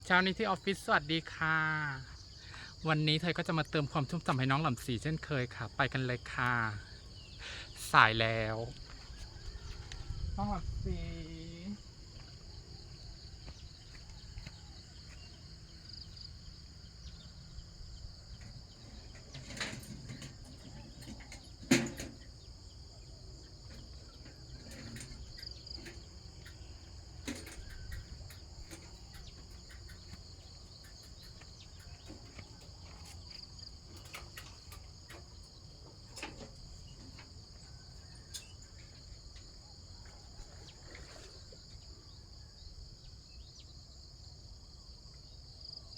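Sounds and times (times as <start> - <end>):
high-pitched insect chorus: 0.0 - 45.9.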